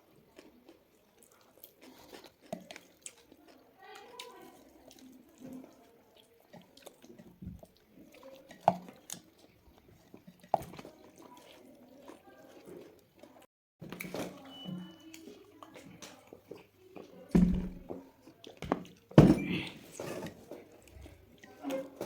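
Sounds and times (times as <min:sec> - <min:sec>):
chewing and mouth noises: 0:00.0 - 0:22.0.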